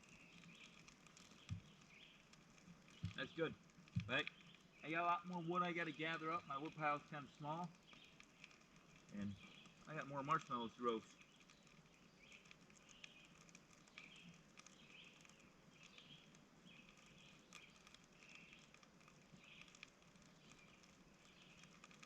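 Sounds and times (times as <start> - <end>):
campfire crackling: 0.0 - 22.0
faint high hiss: 0.0 - 22.0.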